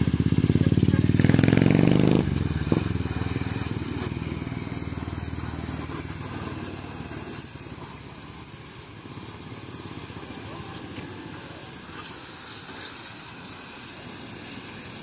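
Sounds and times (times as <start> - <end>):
vehicle engine pulsing: 0.0 - 12.2.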